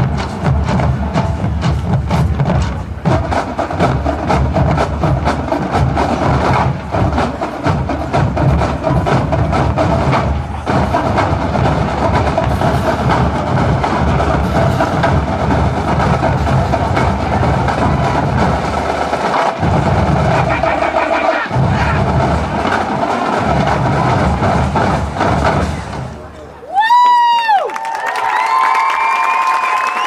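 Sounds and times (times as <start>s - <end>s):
massed bands playing: 0.0s - 26.6s
drums and percussion: 0.0s - 30.0s.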